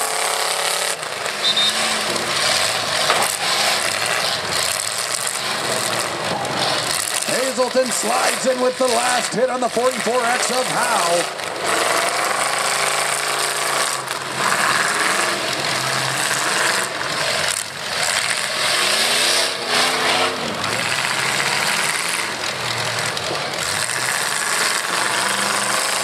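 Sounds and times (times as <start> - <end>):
truck engines revving roughly: 0.0 - 26.0.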